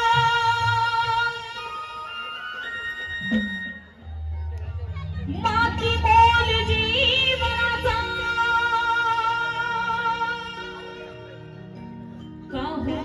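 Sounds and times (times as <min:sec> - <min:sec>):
sustained musical accompaniment: 0:00.0 - 0:13.0.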